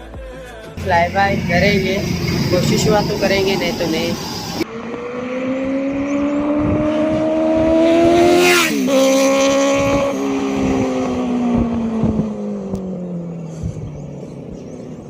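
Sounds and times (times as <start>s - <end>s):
motorcycle passing by: 1.0s - 15.0s.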